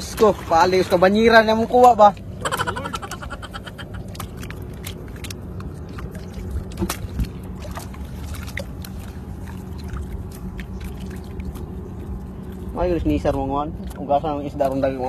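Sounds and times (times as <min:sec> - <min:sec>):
shallow water splashes: 0:00.0 - 0:15.0
steady low rumble: 0:00.0 - 0:15.0.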